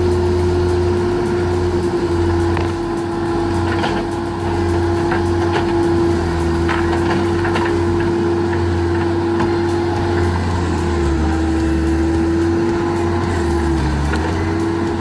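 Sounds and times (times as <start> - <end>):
wood-cutting machine droning: 0.0 - 15.0.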